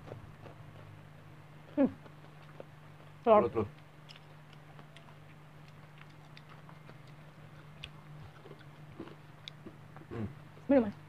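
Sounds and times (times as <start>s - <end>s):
low steady hum: 0.0s - 11.0s
people chewing food: 0.0s - 11.0s.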